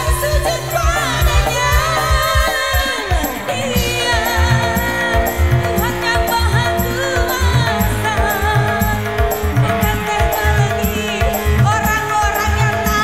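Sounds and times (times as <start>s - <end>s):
live band playing pop music: 0.0s - 13.0s
pounding bass drum beat: 0.0s - 13.0s
woman singing into microphone: 0.0s - 13.0s.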